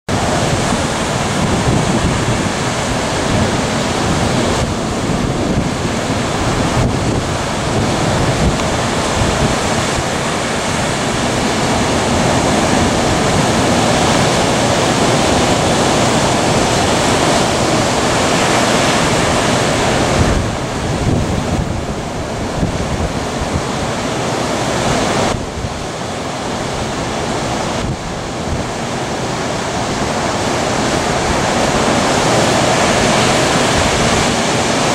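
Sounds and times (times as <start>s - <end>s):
ocean surf breaking: 0.1s - 34.9s
wind buffeting microphone: 0.1s - 34.9s.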